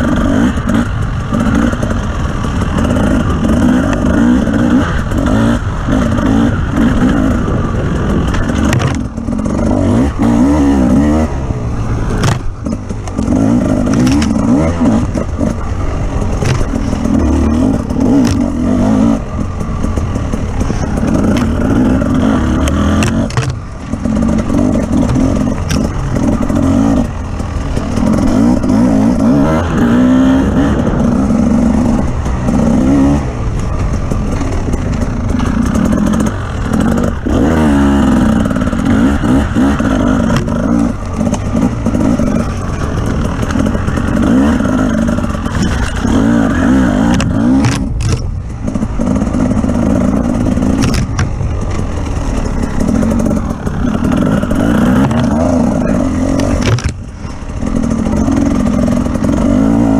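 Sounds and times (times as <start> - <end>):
off-road vehicle engine revving: 0.0 - 59.9
rumble and rattle over rough ground: 0.0 - 59.9.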